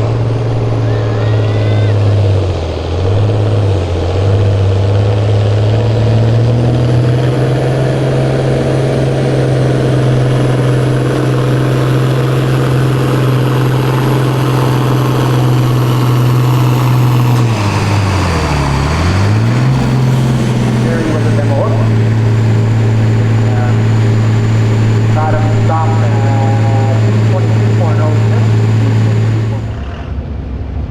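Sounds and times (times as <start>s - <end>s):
tractor engine at high revs: 0.0s - 30.9s.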